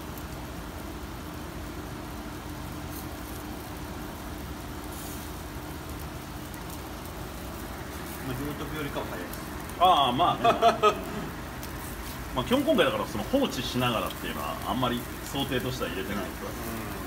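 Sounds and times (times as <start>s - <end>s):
soft crackles: 0.0s - 10.1s, 10.8s - 17.0s
faint steady hum: 0.0s - 17.0s
gas grill hissing and rumbling: 0.0s - 17.0s.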